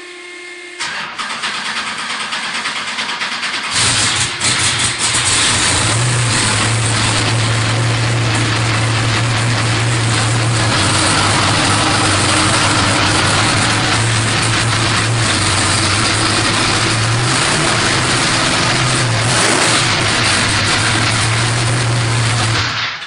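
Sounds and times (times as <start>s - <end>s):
race car engine starting and idling: 0.8s - 23.0s.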